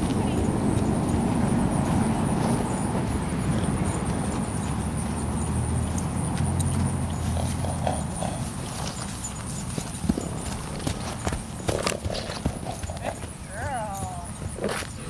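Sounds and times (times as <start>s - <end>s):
hoofbeats on dry ground: 0.0s - 15.0s.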